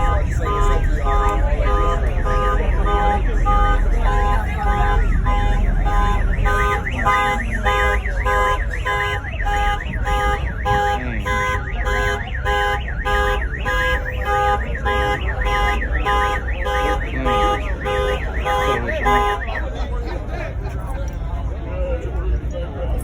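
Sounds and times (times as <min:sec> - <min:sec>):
car alarm warbling: 0:00.0 - 0:20.0.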